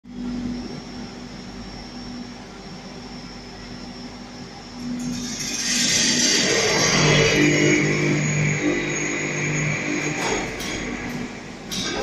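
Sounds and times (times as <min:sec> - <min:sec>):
furnace humming: 0:00.0 - 0:12.0.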